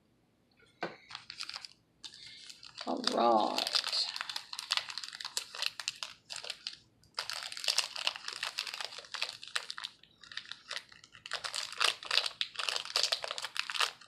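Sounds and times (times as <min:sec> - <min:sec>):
trading cards crinkling and clicking: 0:01.0 - 0:14.0.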